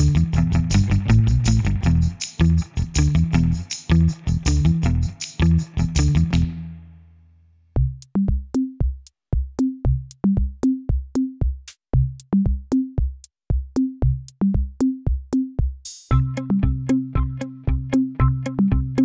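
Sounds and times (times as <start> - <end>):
electronic drum beat: 0.0 - 6.7, 7.8 - 19.0.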